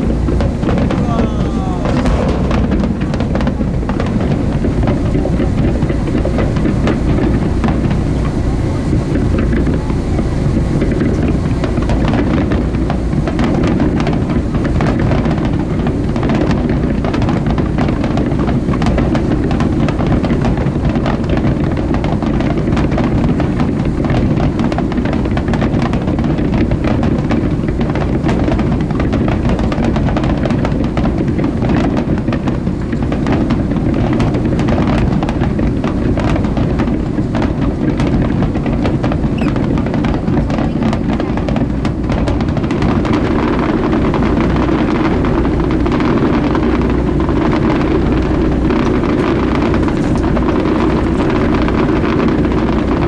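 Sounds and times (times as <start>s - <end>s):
faint crackles: 0.0s - 53.0s
wind on microphone: 0.0s - 53.0s.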